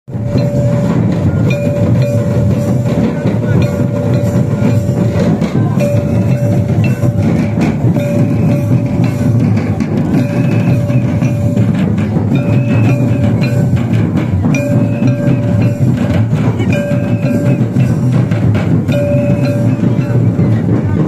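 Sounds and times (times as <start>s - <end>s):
hand-beaten barrel drums: 0.1s - 21.0s.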